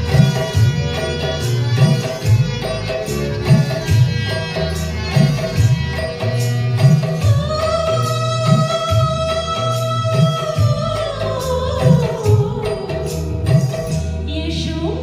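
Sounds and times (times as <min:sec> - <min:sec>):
tabla drumming steady rhythm: 0:00.0 - 0:14.7
plucked string melody: 0:00.0 - 0:14.8.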